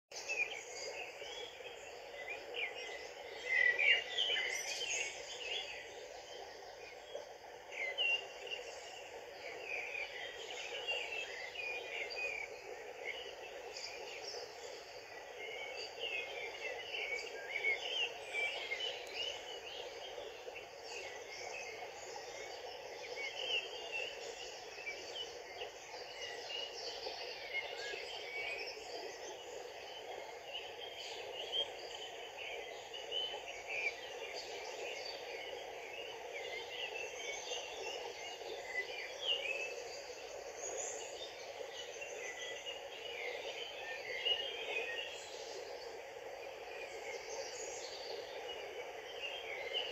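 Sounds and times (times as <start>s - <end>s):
small birds chirping: 0.1s - 49.9s
stream running over rocks: 0.2s - 49.9s.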